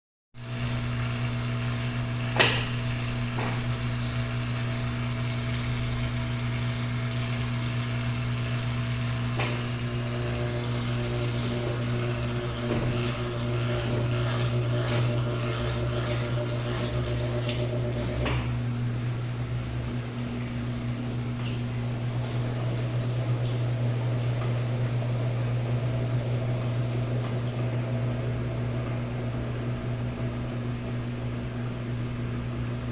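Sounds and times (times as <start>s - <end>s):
washing machine humming: 0.4s - 32.9s.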